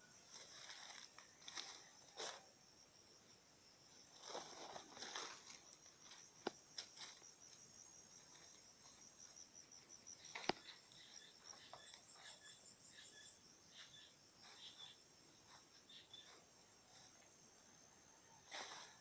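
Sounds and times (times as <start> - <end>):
faint insect trilling: 0.0 - 19.0.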